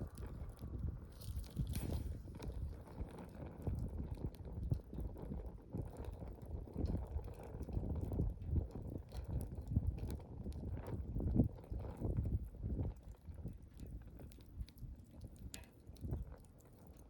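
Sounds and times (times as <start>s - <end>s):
campfire crackles and pops: 0.0s - 17.0s
low rumble of flame: 0.0s - 17.0s.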